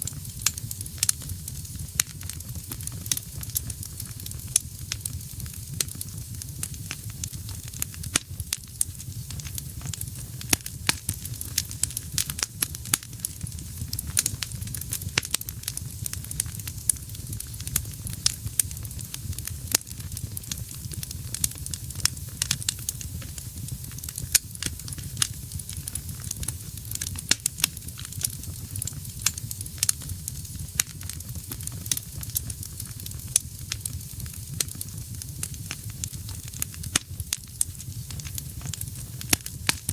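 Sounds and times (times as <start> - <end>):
burning wood crackling: 0.0 - 39.9
fire flames rumbling: 0.0 - 39.9.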